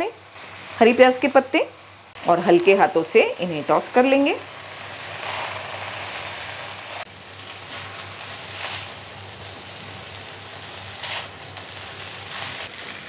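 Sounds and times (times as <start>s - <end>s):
noodles sizzling in a wok: 0.0s - 13.0s.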